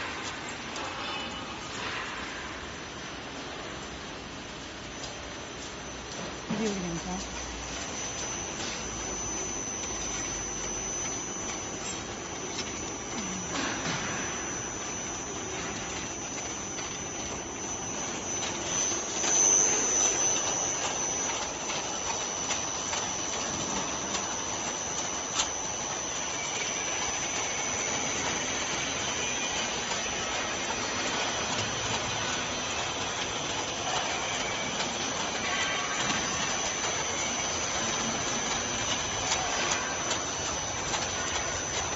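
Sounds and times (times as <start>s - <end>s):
high whine: 0.0s - 41.9s
machinery running: 5.0s - 41.9s.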